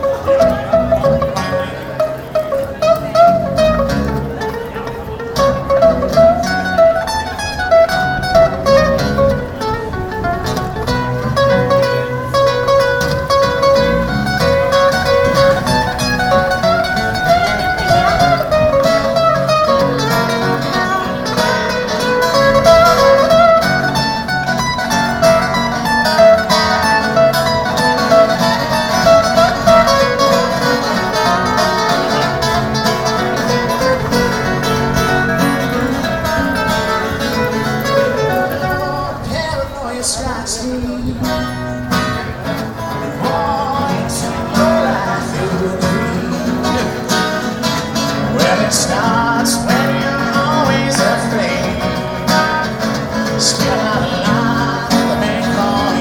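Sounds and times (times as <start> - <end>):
acoustic band accompaniment: 0.0 - 56.0
plucked acoustic guitar lead: 0.0 - 56.0.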